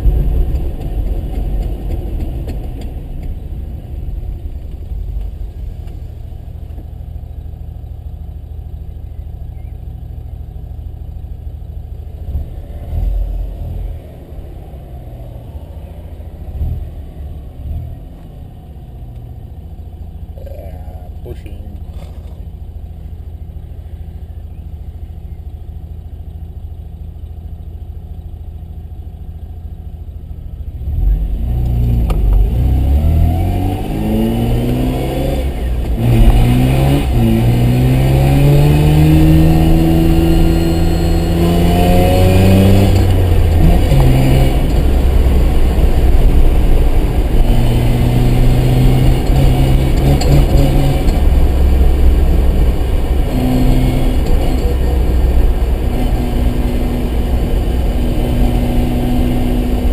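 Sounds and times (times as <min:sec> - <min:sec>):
car engine revving: 0:00.0 - 0:26.1, 0:30.5 - 0:59.9.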